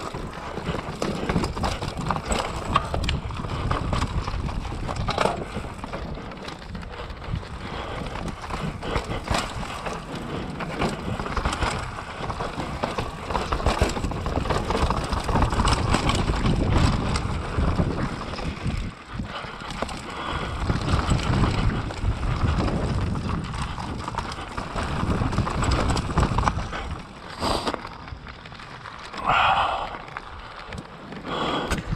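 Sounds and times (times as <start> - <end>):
bike clattering over bumps: 0.0 - 29.3
wind and rolling noise: 0.0 - 31.9.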